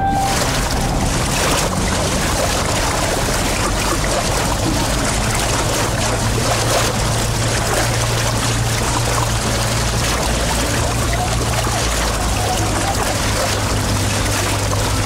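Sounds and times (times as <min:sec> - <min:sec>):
kayak paddles splashing: 0:00.0 - 0:15.0
steady low hum: 0:00.0 - 0:15.0.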